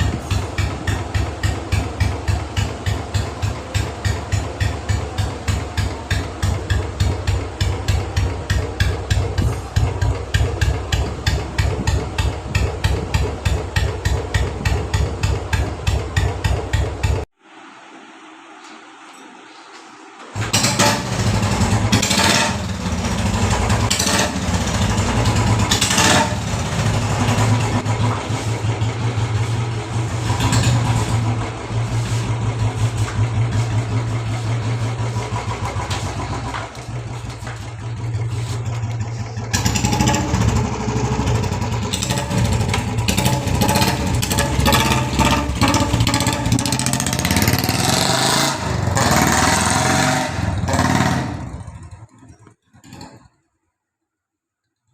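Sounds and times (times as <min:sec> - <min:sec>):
motorcycle engine running: 0:00.0 - 0:17.3, 0:20.4 - 0:53.2.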